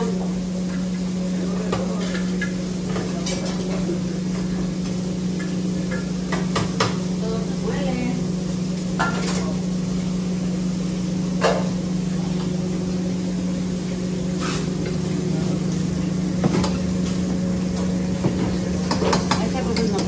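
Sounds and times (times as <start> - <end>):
kitchen machine hum: 0.0 - 20.0.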